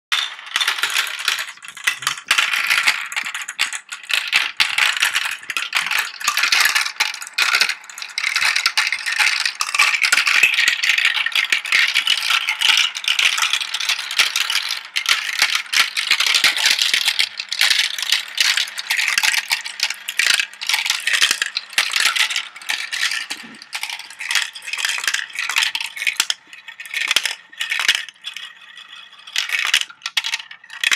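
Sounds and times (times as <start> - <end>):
marbles rattling down plastic tracks: 0.1 - 30.9.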